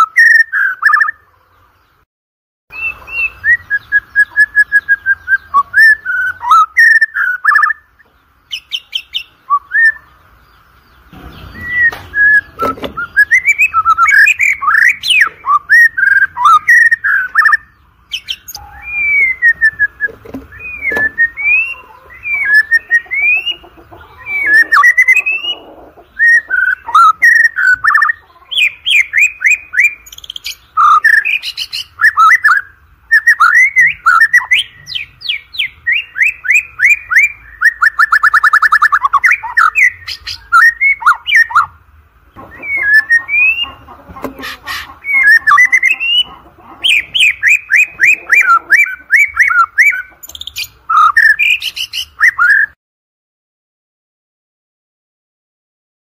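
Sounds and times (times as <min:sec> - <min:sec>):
bird singing whistled notes: 0:00.0 - 0:01.2, 0:02.7 - 0:10.2, 0:11.2 - 0:41.7, 0:45.0 - 0:52.8.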